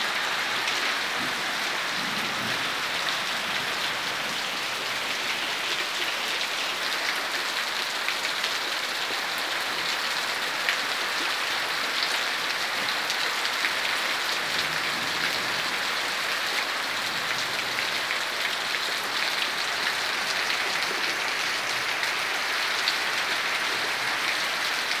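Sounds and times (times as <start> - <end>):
heavy rain on foliage and concrete: 0.0 - 25.0.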